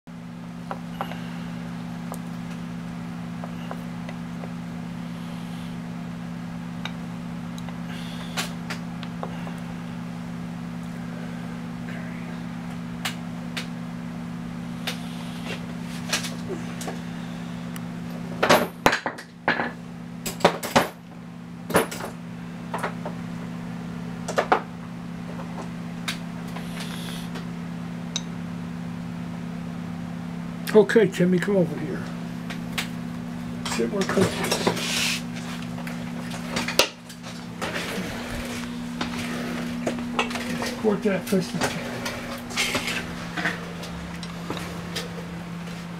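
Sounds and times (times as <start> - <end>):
steady low hum: 0.1 - 45.9.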